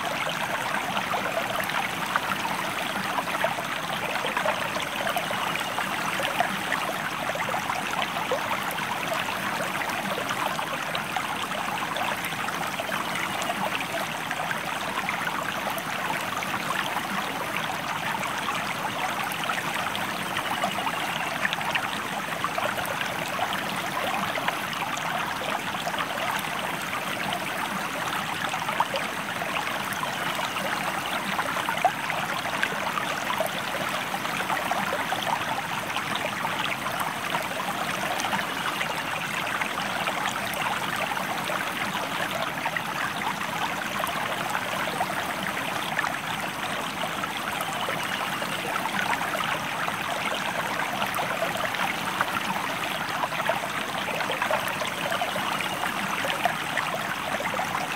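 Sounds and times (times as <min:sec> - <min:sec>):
stream flowing: 0:00.0 - 0:57.9.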